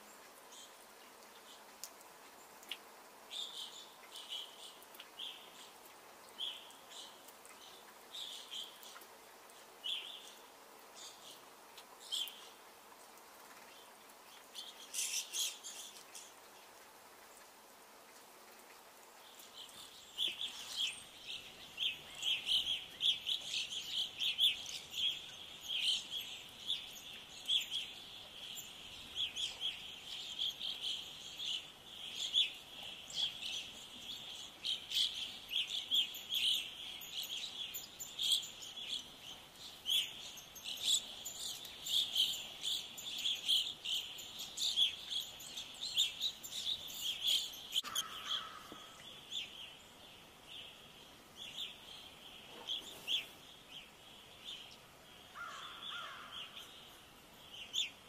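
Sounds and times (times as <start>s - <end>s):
flock of small birds chirping: 0.0s - 12.6s, 13.4s - 16.8s, 19.2s - 58.0s.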